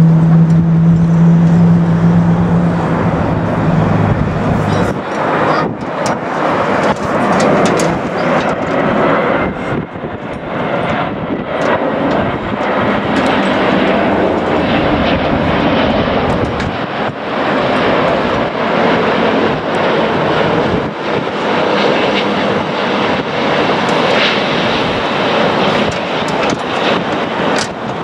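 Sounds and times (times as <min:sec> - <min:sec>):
jet airliner engines rushing: 0:00.0 - 0:28.0.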